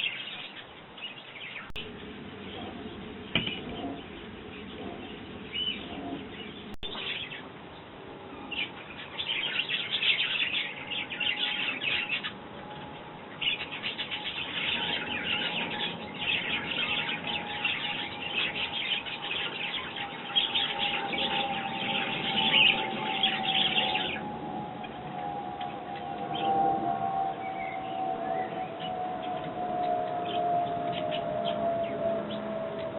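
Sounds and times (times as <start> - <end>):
faint steady hum: 0.0 - 32.9
sparrows chirping: 0.0 - 32.9.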